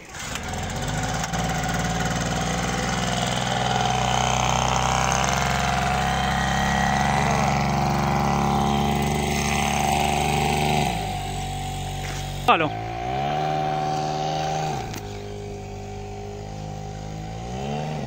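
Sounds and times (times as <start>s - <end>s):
portable generator running: 0.0s - 18.0s.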